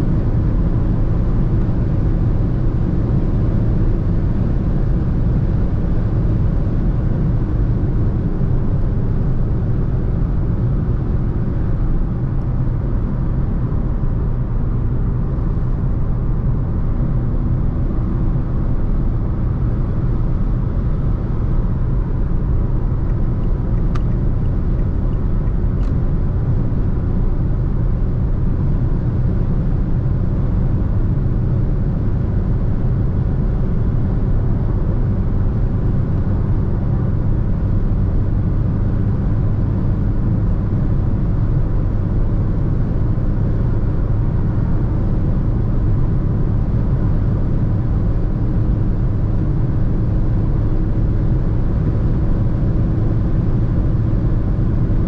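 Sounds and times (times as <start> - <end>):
car engine and tyres cruising: 0.0 - 55.0.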